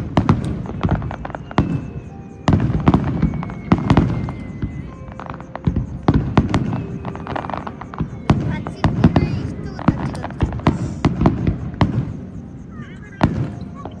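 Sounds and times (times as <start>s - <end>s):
fireworks bangs and crackles: 0.0s - 14.0s
heavy fireworks booms: 0.0s - 14.0s.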